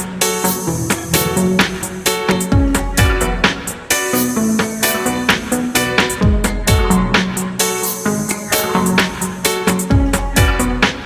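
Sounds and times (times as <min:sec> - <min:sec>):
upbeat funk music: 0:00.0 - 0:11.0.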